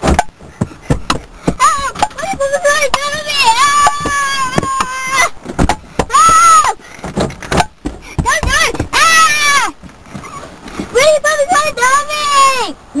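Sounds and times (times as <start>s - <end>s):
knocks and bumps: 0.0s - 11.8s.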